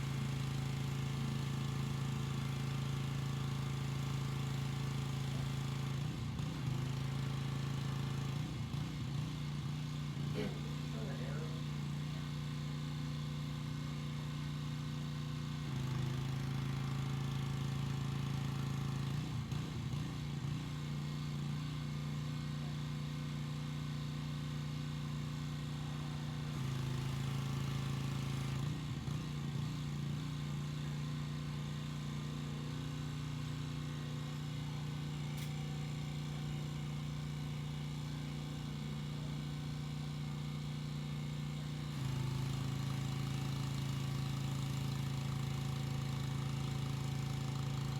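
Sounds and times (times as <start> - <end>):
pressure washer engine running: 0.0 - 47.9.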